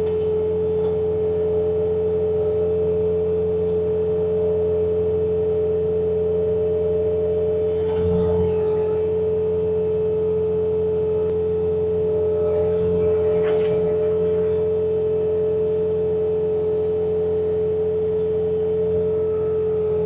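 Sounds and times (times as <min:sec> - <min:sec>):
low engine drone: 0:00.0 - 0:20.0
snowblower high whine: 0:00.0 - 0:20.0.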